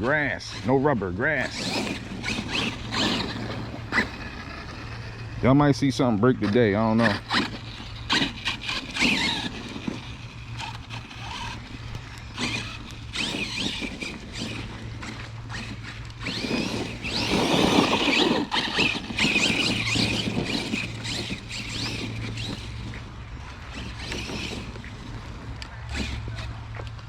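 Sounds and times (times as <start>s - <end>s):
electric motor whining: 0.0s - 27.0s
tyres spinning through wet grass: 0.0s - 27.0s.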